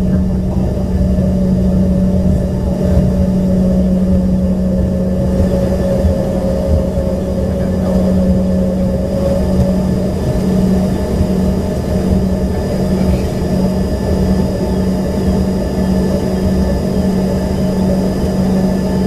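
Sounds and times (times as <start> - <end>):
jet engines humming and whining: 0.0 - 19.0
low rumble: 0.0 - 19.0.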